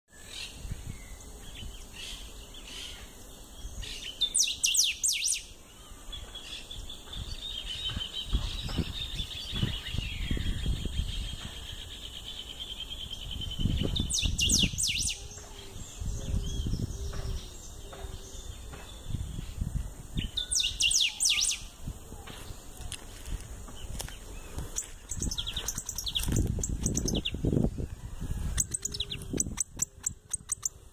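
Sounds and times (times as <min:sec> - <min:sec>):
bird song phrases: 0:00.1 - 0:30.9.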